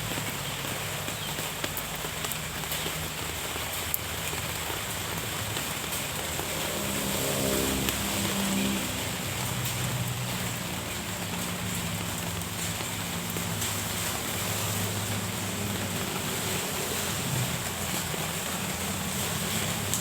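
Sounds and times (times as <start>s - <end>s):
rain falling: 0.0s - 20.0s
sharp drips: 0.0s - 20.0s
vehicle engine hum: 0.0s - 20.0s.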